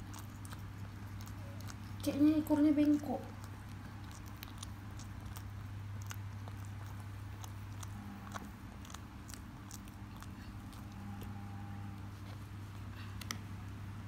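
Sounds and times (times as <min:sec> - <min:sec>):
cat licking and chewing: 0:00.0 - 0:13.8
steady low hum: 0:00.0 - 0:14.0.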